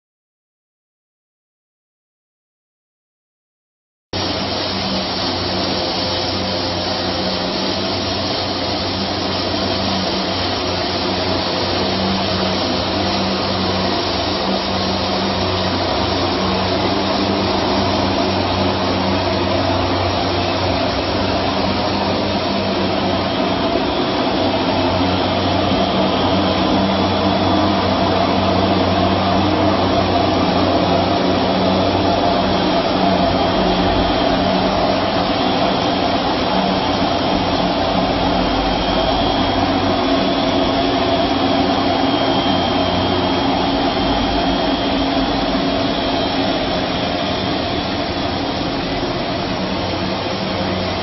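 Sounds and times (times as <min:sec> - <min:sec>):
low hum: 0:04.2 - 0:51.0
machinery whirring: 0:04.2 - 0:51.0.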